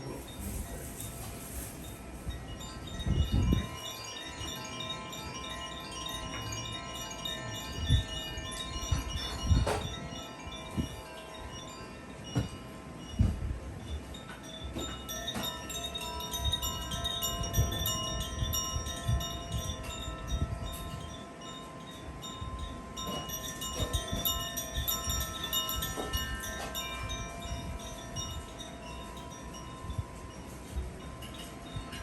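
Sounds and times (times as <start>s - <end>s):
carillon bells playing: 0.0s - 32.0s.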